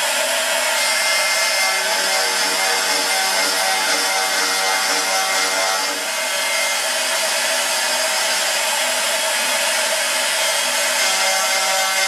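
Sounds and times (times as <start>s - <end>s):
router spindle whining: 0.0s - 12.0s.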